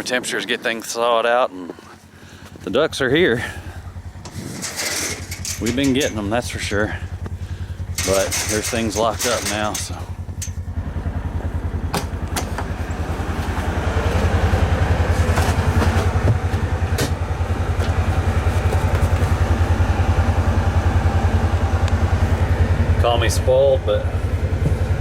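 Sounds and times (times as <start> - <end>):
utility vehicle engine running: 1.5 - 25.0.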